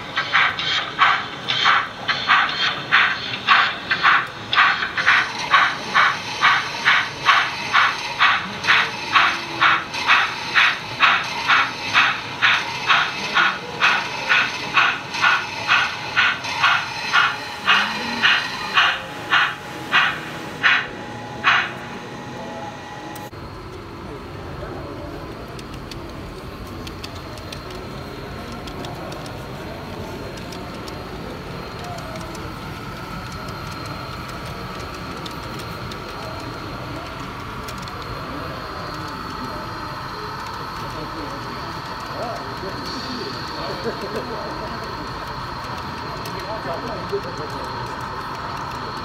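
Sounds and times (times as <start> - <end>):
low murmur: 0.0 - 49.0
model steam locomotive chuffs: 0.0 - 49.0.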